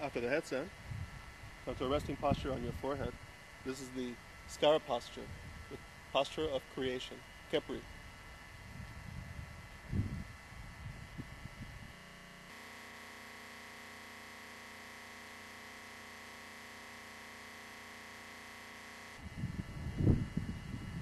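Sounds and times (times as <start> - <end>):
steady hum with hiss: 0.0 - 21.0.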